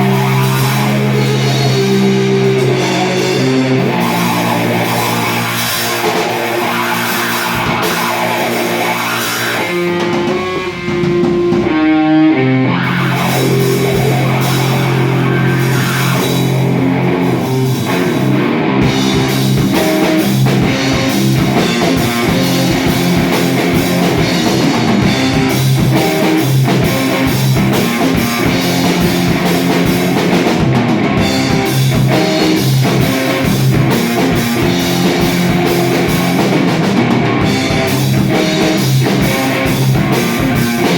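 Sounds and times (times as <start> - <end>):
drum kit: 0.0 - 40.9
electric guitar: 0.0 - 40.9
live rock band playing: 0.0 - 40.9.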